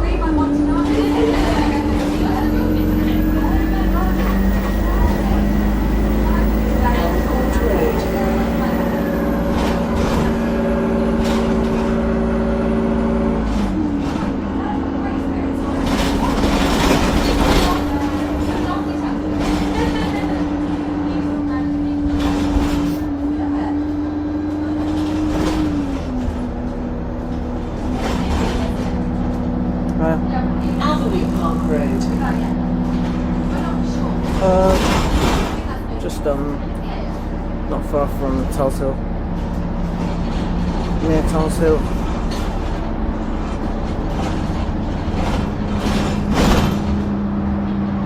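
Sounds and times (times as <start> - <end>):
bus low rumble: 0.0 - 48.0.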